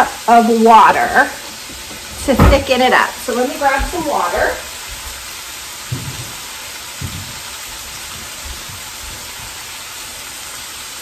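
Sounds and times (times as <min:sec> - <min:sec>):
vegetables sizzling in a skillet: 0:00.0 - 0:11.0.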